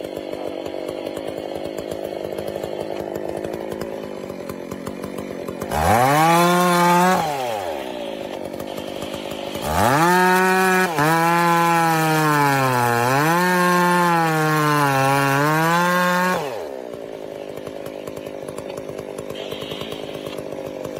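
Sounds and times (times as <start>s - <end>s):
chainsaw cutting into log: 0.0s - 20.9s
chainsaw revving and idling: 0.0s - 20.9s.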